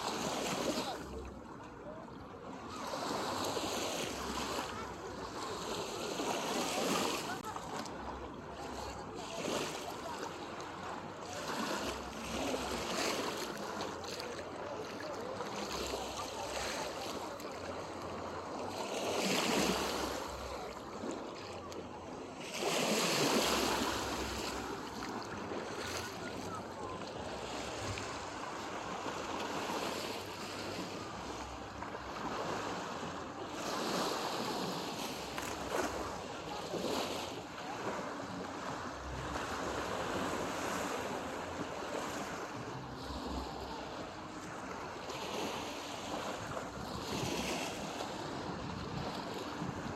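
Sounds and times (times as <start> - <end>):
seawater lapping at shore: 0.0 - 49.9.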